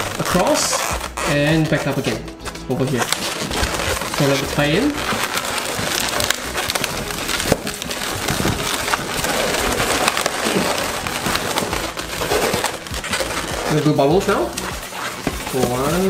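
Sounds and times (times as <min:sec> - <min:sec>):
balloons rubbing and squeaking: 0:00.0 - 0:16.0.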